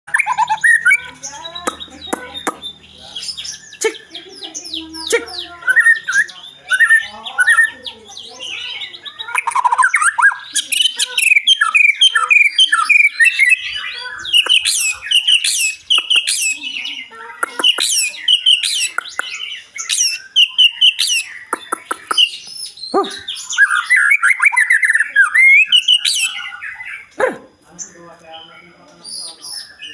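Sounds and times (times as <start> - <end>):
bird singing varied song: 0.1 - 29.9.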